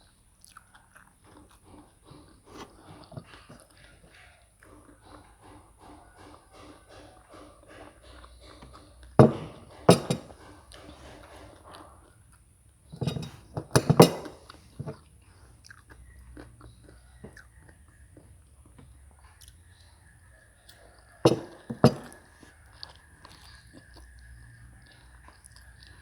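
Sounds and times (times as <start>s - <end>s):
person chewing food: 0.0s - 13.6s, 14.3s - 26.0s.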